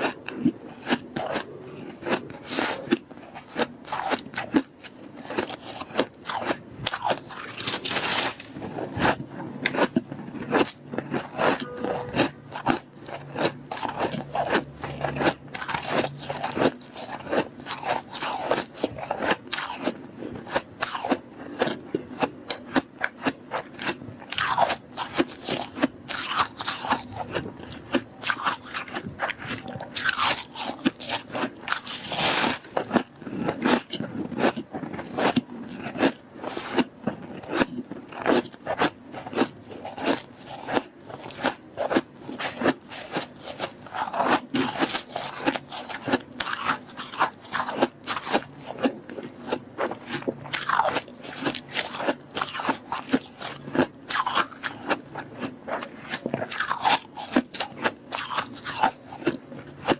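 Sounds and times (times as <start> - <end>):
chewing crunchy frost: 0.0 - 59.9.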